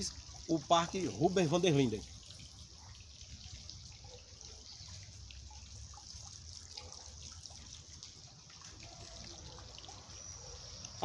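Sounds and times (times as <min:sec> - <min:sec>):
fountain trickling and dripping: 0:00.0 - 0:11.0.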